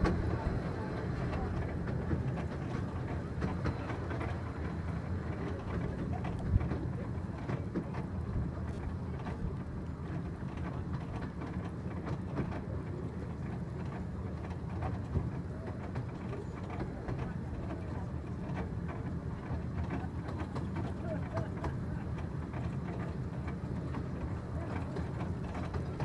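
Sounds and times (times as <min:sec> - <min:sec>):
wheels rumbling on rails: 0:00.0 - 0:26.0.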